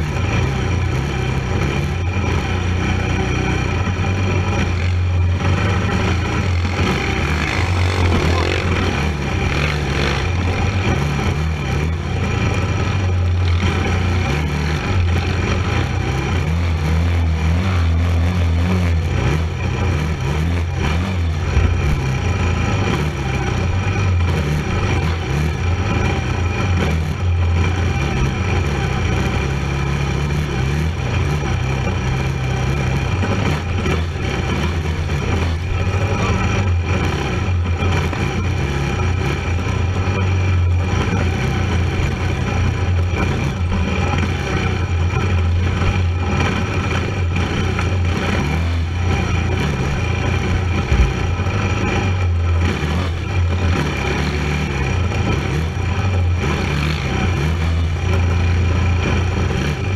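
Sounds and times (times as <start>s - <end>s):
atv engine running under load: 0.0s - 59.9s.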